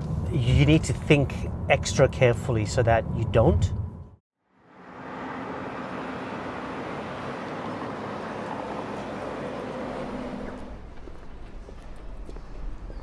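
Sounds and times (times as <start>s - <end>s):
vehicle passing: 0.0s - 12.9s.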